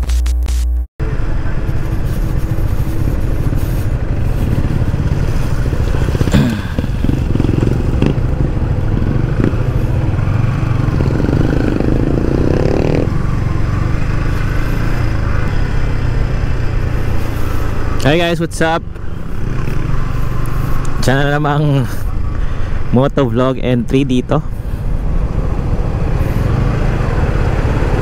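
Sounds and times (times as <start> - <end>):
low traffic rumble: 1.0 - 28.0
motorcycle engine riding: 1.0 - 28.0.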